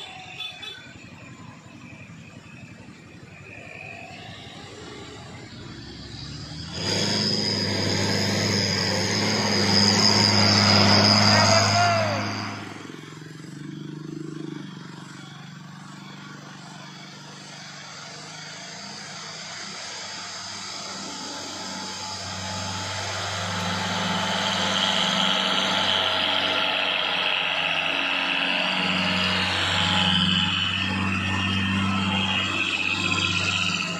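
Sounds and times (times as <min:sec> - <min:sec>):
diesel truck engine approaching: 0:01.0 - 0:33.9
scooter passing: 0:02.1 - 0:33.9.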